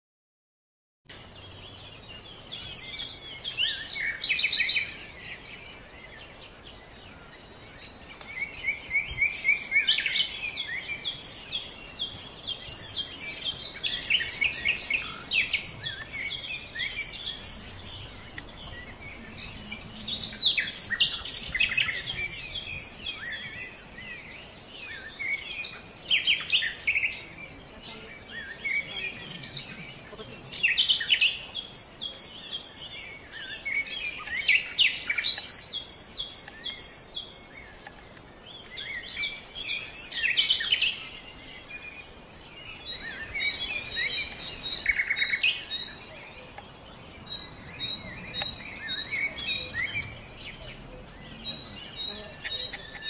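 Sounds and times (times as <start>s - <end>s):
songbirds chirping and singing: 1.1s - 53.0s.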